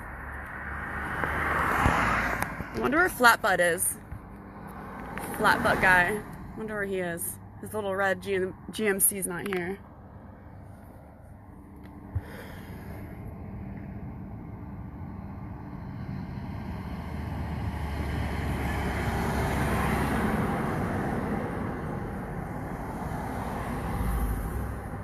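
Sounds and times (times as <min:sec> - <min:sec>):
vehicle passing by: 0:00.0 - 0:07.7, 0:10.0 - 0:25.0.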